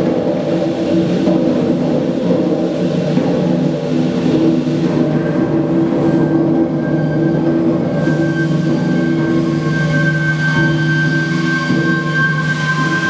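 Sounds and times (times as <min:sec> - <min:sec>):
steam engine rumbling: 0:00.0 - 0:13.0.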